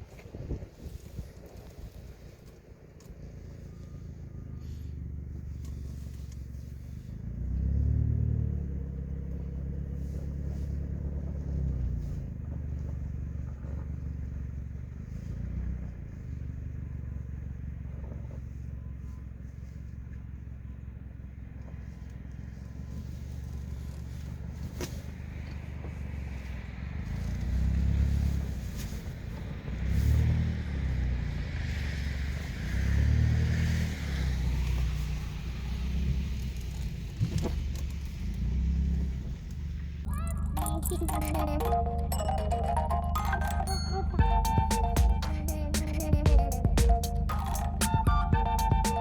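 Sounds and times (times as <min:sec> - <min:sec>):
car engine hum: 0:00.0 - 0:49.0.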